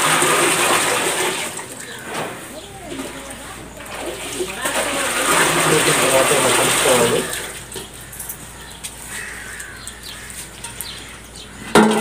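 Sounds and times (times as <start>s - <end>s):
birds chirping: 1.6s - 12.0s.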